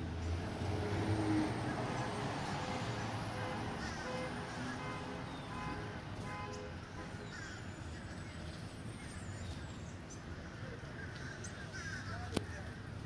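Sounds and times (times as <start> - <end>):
birds calling and chirping: 1.5 - 5.8, 6.4 - 13.0.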